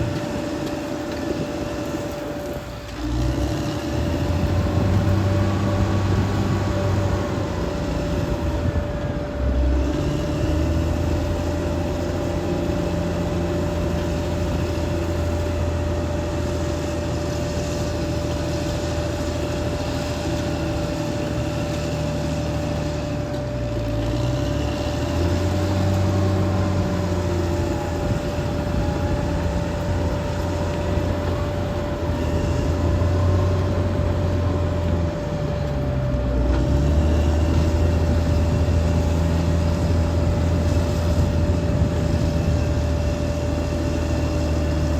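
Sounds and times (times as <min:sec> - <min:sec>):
bulldozer diesel engine under load: 0:00.0 - 0:44.9
steady whine: 0:00.0 - 0:44.9.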